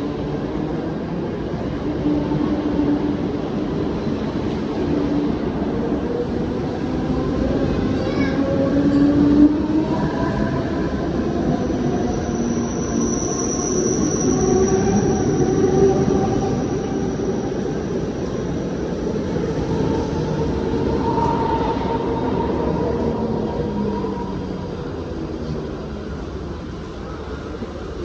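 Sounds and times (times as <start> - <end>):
train rumble: 0.0 - 28.0.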